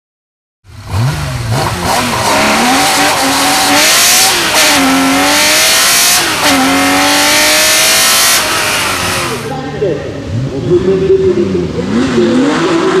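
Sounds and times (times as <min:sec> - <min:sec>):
race car engine accelerating: 0:00.7 - 0:13.0.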